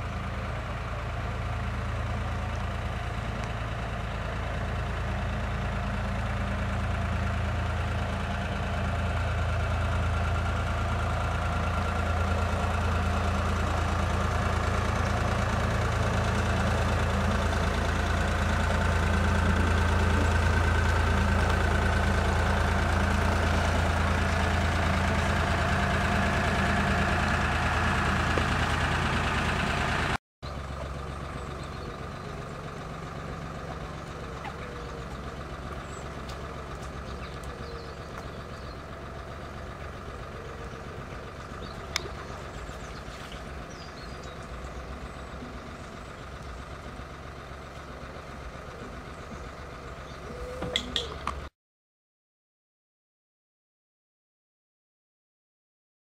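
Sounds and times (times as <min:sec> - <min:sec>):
boat diesel engine chugging: 0:00.0 - 0:51.5.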